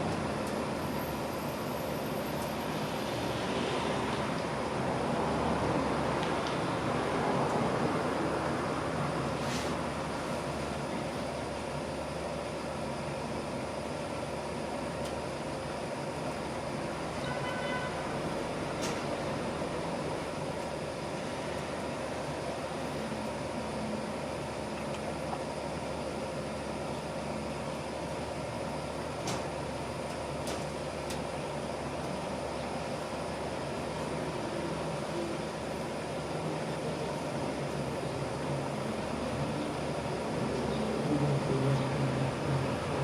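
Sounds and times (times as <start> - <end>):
laundry machines humming: 0.0 - 43.0.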